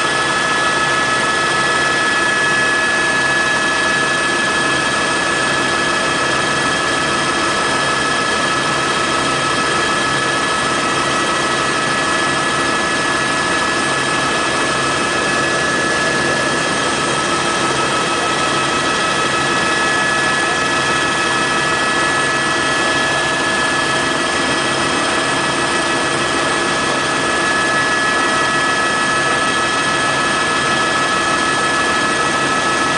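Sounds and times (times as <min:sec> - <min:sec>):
helicopter engine and rotor noise: 0:00.0 - 0:32.9
helicopter turbine whine: 0:00.0 - 0:32.9.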